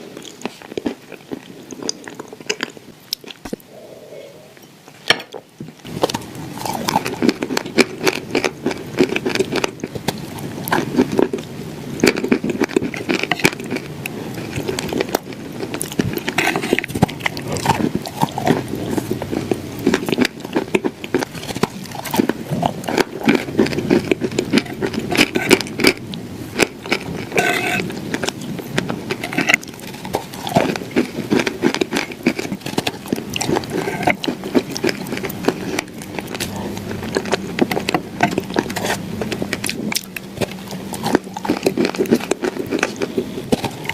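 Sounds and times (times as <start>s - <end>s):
person chewing crunchy cookies: 0.0s - 4.7s, 5.3s - 43.9s.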